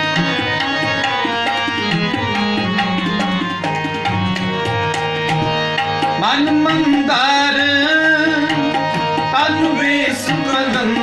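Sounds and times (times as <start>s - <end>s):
harmonium melody: 0.0s - 11.0s
tabla drums playing: 0.0s - 11.0s.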